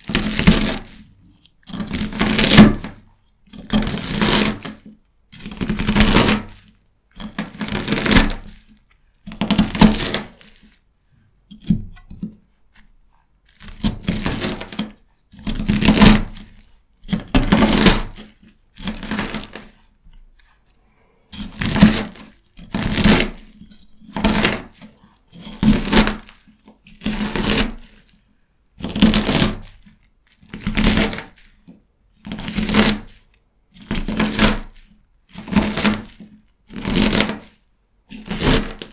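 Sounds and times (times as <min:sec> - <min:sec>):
knife crunching through celery: 0:00.1 - 0:10.8, 0:13.5 - 0:20.7, 0:21.3 - 0:28.2, 0:28.8 - 0:31.6, 0:32.3 - 0:38.9.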